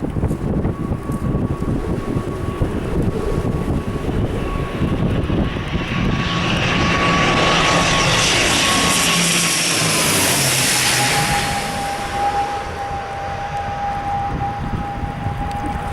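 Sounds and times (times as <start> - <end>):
aircraft rush: 0.0 - 15.9
turboprop engine whine: 0.0 - 15.9.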